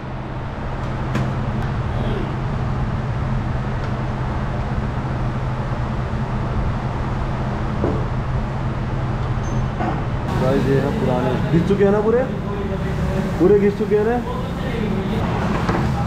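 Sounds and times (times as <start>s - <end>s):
low mechanical hum: 0.0s - 16.0s
machine and traffic noise: 0.0s - 16.0s.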